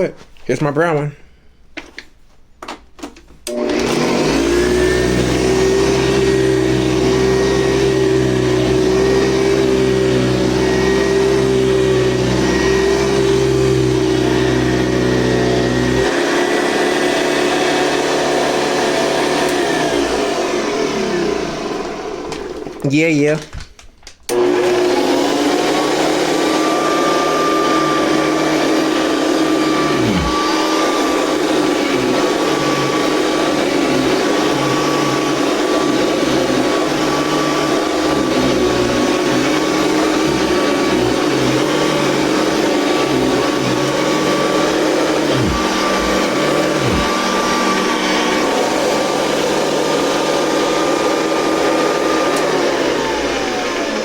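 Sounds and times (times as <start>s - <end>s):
vacuum cleaner motor whine: 3.5s - 22.9s, 24.3s - 54.0s.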